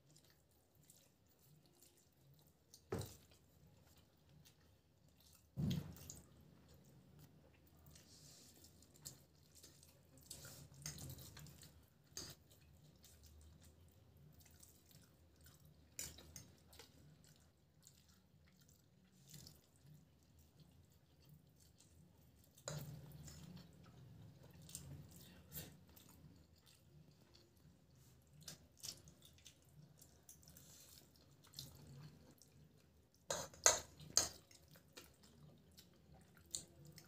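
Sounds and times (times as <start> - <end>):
wet chewing and mouth sounds: 0.0 - 37.0.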